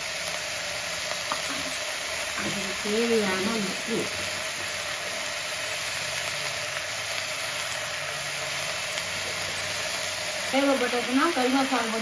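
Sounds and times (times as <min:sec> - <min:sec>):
meat and onions sizzling in oil: 0:00.0 - 0:12.0.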